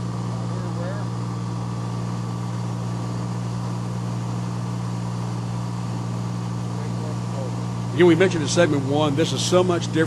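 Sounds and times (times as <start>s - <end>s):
aircraft engine drone: 0.0s - 10.0s.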